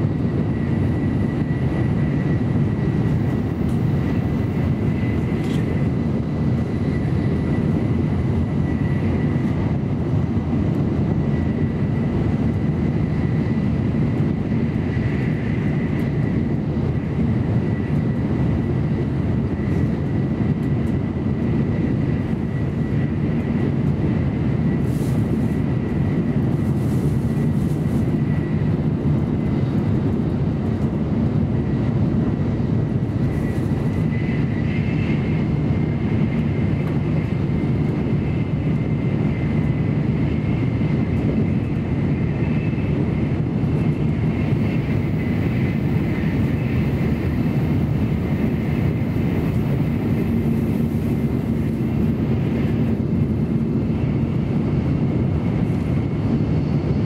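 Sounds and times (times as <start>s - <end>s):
train wheels and rushing air: 0.0s - 57.0s.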